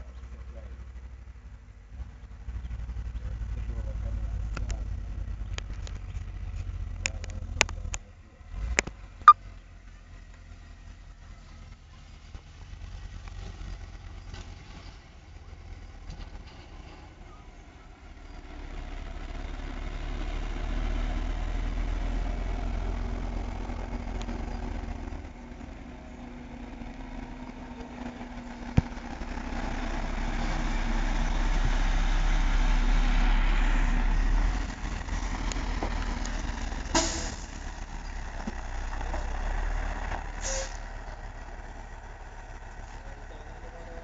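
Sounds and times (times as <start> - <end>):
diesel truck engine rumble: 0.0 - 44.0.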